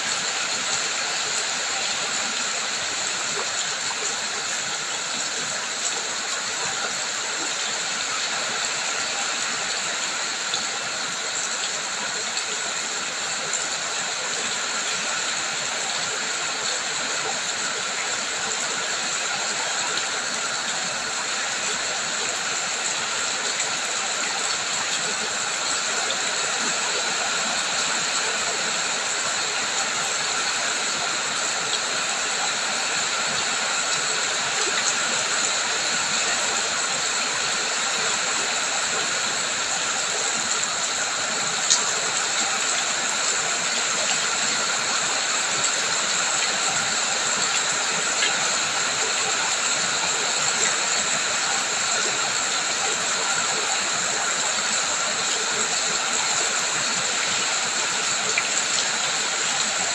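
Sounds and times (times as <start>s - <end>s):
steady rain and running water: 0.0s - 59.9s
water dripping ticks: 0.1s - 59.9s.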